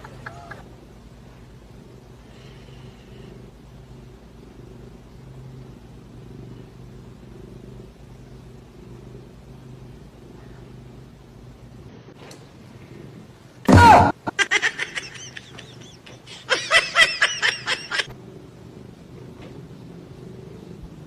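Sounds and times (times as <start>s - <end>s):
cat purring: 0.0s - 13.5s, 17.5s - 21.0s.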